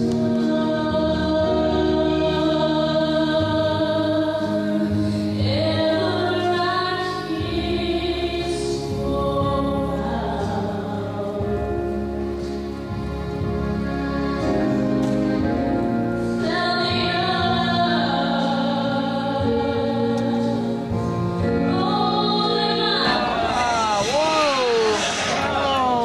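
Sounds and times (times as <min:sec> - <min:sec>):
slow music with held chords: 0:00.0 - 0:24.7.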